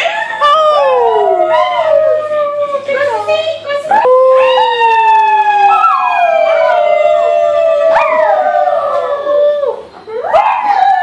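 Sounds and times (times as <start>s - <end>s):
dog howling: 0.0s - 2.8s, 3.9s - 11.0s.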